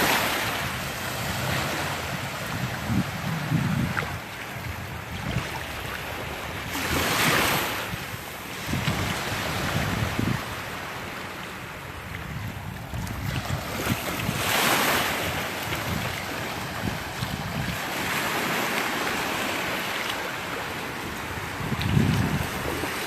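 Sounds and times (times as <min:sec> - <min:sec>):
wind buffeting microphone: 0:00.0 - 0:11.0, 0:11.7 - 0:23.0
surf washing up the beach: 0:00.0 - 0:23.0.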